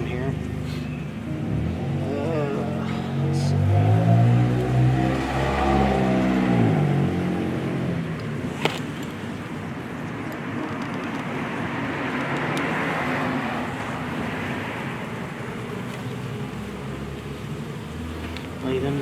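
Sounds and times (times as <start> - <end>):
car tyre noise passing: 0.0 - 19.0.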